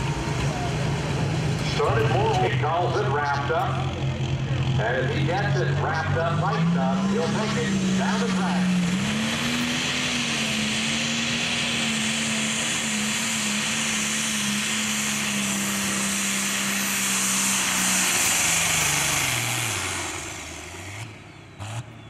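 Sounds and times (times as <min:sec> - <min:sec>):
diesel engine running at high revs: 0:00.0 - 0:22.0.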